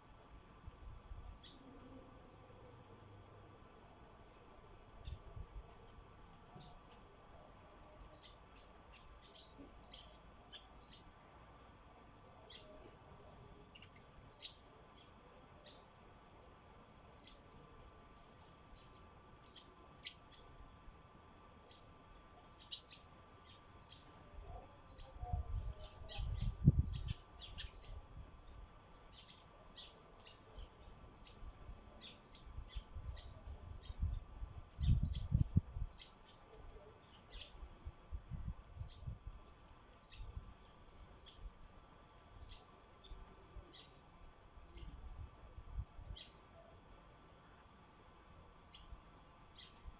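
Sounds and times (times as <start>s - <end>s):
sparrows chirping: 0.5s - 47.0s, 48.5s - 49.9s.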